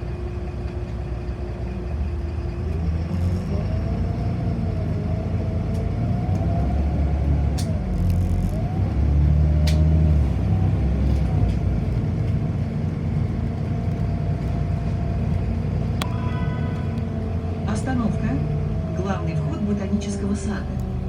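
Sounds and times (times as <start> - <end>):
bus engine rumble with whine: 0.0 - 21.0.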